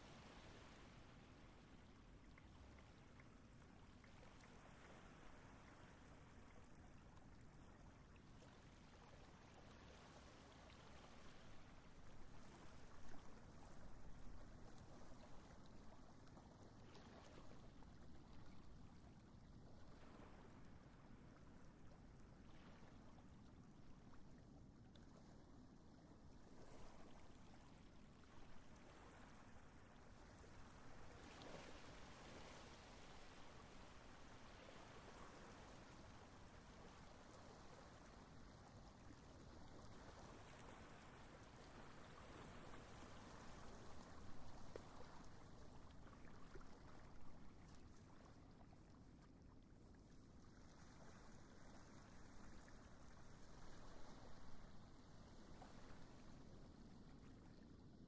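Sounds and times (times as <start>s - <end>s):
faint background hiss: 0.0s - 58.0s.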